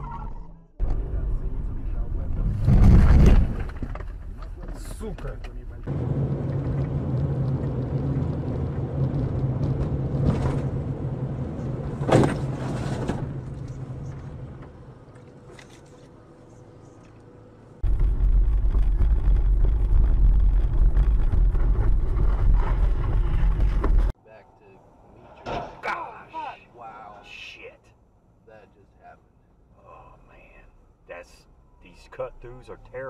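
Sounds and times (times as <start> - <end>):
low road rumble: 0.0 - 33.0
car interior road hum: 3.8 - 33.0.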